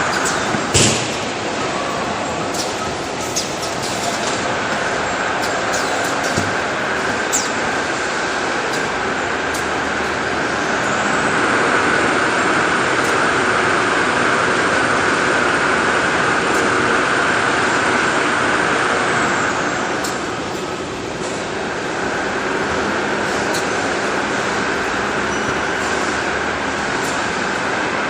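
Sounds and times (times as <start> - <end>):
machinery running: 0.0 - 28.0.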